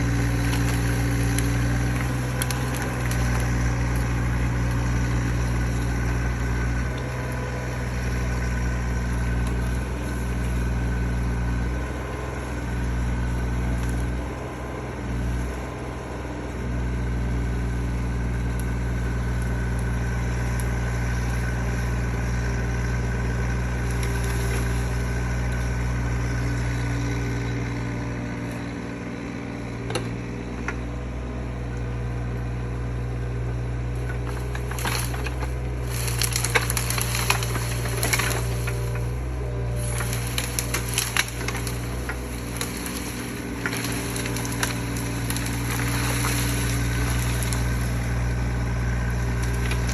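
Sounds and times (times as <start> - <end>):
wood and brush cracking: 0.0 - 16.2, 16.8 - 31.0, 33.4 - 49.9
excavator engine running: 0.0 - 49.9.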